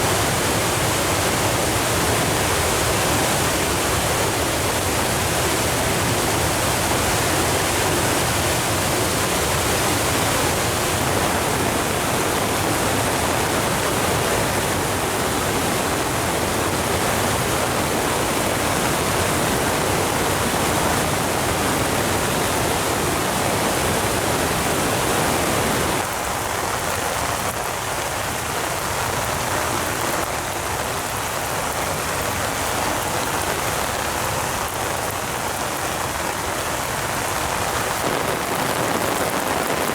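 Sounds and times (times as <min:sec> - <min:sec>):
waterfall rushing: 0:00.0 - 0:26.4, 0:29.0 - 0:39.9
rain falling: 0:00.0 - 0:39.9.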